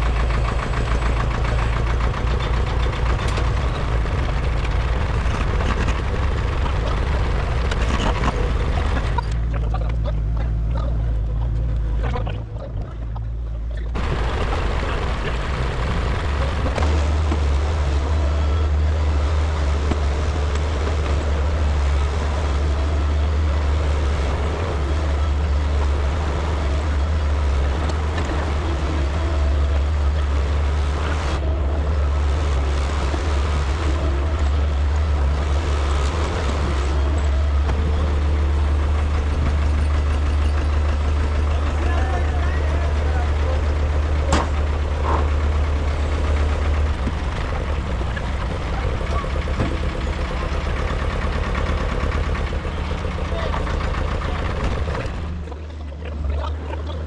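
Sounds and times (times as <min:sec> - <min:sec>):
deep hum: 0:00.0 - 0:57.0
heavy engine running: 0:00.0 - 0:57.0.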